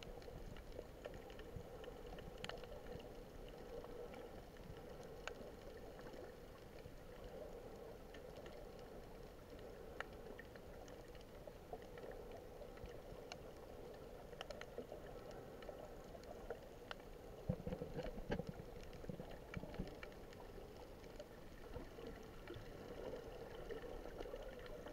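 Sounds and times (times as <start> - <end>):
faint underwater clicks: 0.0 - 24.9.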